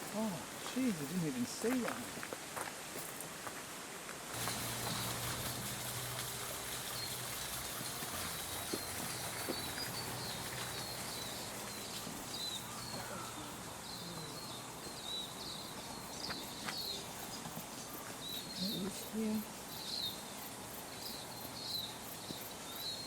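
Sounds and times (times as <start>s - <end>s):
steady hiss: 0.0s - 23.0s
small birds chirping: 4.4s - 23.0s.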